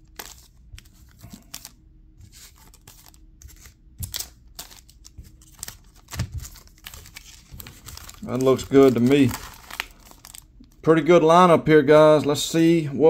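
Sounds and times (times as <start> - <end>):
foil packs crinkling: 0.0 - 10.8.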